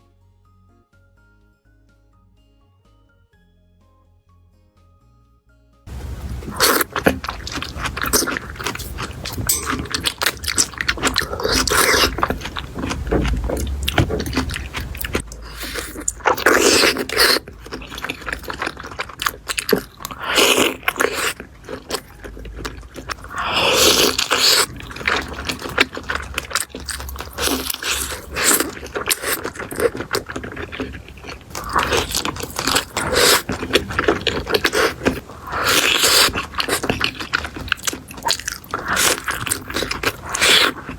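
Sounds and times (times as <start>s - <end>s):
crunchy chewing: 5.9s - 40.9s.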